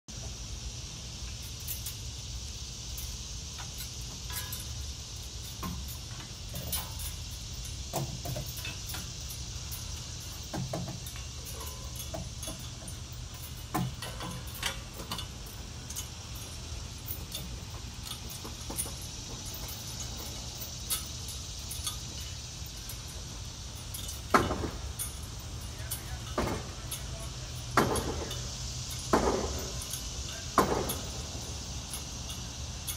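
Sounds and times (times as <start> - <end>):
steady hiss: 0.1 - 32.9
metal clinks from monkey bars: 1.2 - 32.9.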